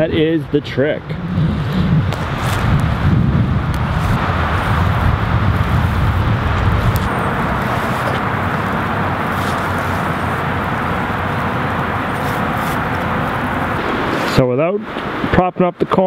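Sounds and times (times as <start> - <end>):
outdoor rumble and hiss: 0.0 - 16.0.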